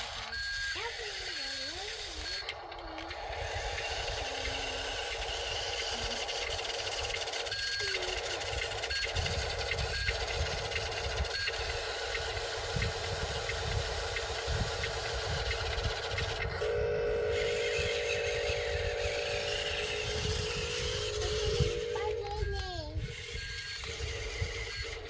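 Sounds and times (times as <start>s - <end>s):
small electric motor whine: 0.0s - 25.0s
louder motor whine: 1.9s - 25.0s.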